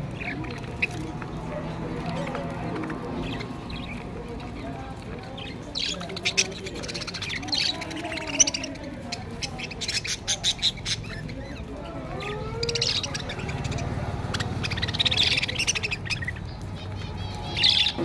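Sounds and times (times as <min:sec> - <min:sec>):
budgerigars chattering: 0:00.0 - 0:18.0.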